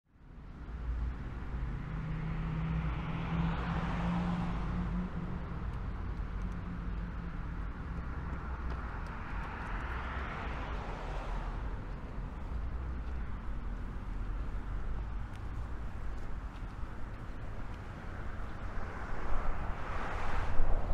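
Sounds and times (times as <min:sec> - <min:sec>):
low traffic rumble: 0:00.1 - 0:20.9
vehicles passing: 0:00.2 - 0:20.9.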